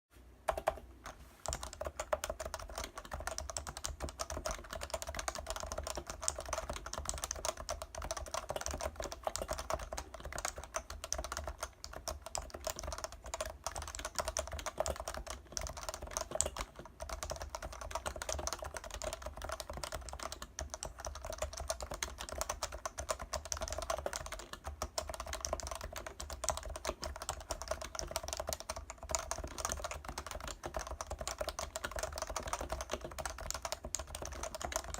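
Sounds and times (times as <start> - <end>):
fast keyboard typing: 0.5 - 34.9.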